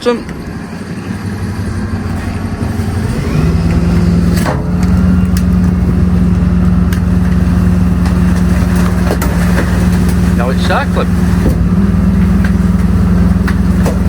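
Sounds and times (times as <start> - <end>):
hydraulic compactor clunk: 0.0 - 14.0
truck diesel engine revving: 0.0 - 14.0.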